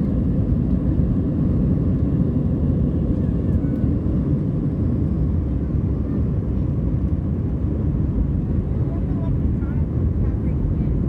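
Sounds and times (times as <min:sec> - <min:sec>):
jet engine roar in cabin: 0:00.0 - 0:11.0.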